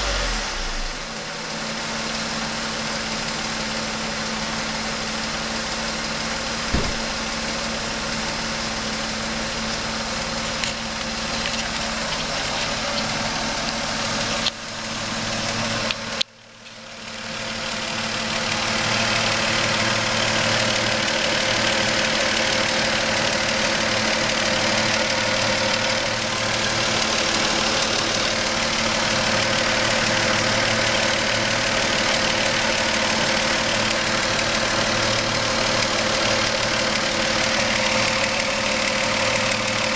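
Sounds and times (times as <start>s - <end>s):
car engine idling: 0.0s - 39.9s
engine knocking: 1.1s - 39.9s.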